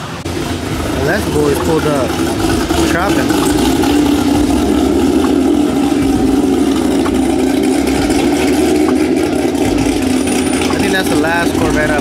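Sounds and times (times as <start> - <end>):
sports car engines idling past: 0.0 - 12.0.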